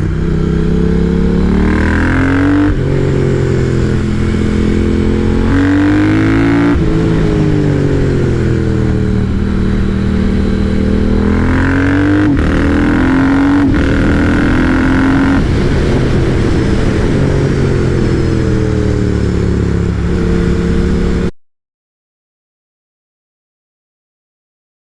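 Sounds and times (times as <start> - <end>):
motorcycle engine accelerating: 0.0 - 21.3.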